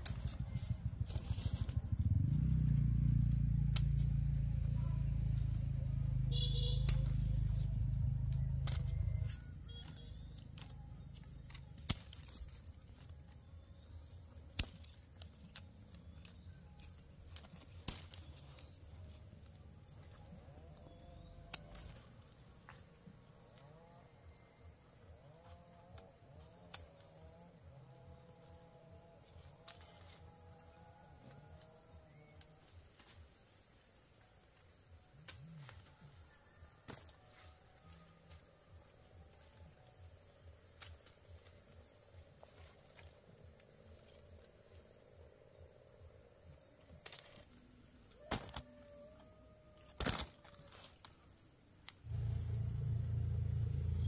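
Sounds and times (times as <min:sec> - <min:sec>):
insects chirring with pulsing trill: 0:00.0 - 0:54.0.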